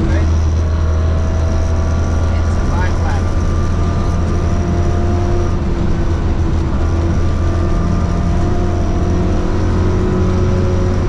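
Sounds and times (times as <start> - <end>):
car engine running hard: 0.0 - 11.0
road noise on gravel: 0.0 - 11.0.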